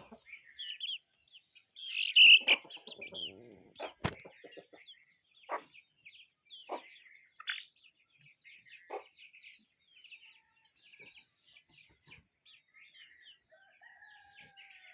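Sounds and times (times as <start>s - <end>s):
poultry chirping: 0.0s - 14.9s.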